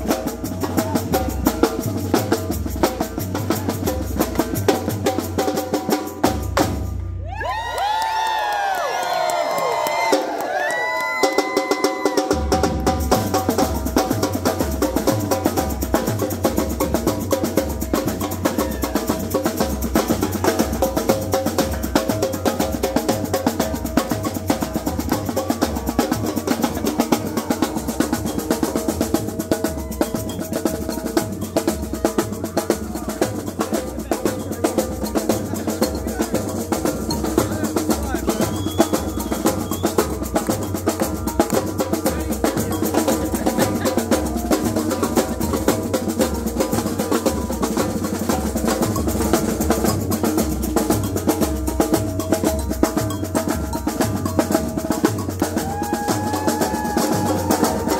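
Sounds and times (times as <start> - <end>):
rapid snare drum strokes: 0.0 - 7.1, 11.6 - 57.9.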